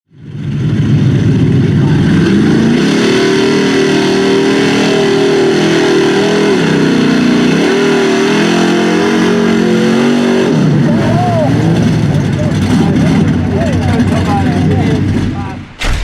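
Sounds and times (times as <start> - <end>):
truck engine revving: 0.2 - 16.0.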